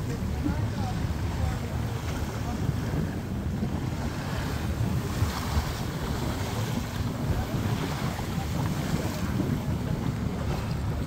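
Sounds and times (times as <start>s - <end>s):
water rushing along hull: 0.0s - 11.0s
wind buffeting microphone: 0.0s - 11.0s.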